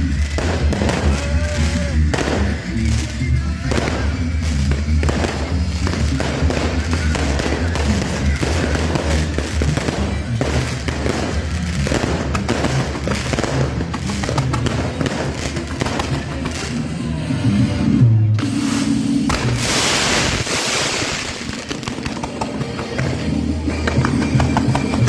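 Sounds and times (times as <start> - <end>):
fireworks crackling and banging: 0.0 - 25.0
loud music with deep bass: 0.0 - 25.0.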